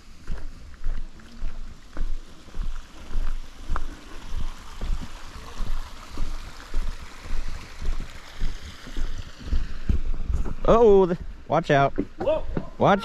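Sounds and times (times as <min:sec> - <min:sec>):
footsteps on a trail: 0:00.0 - 0:12.9.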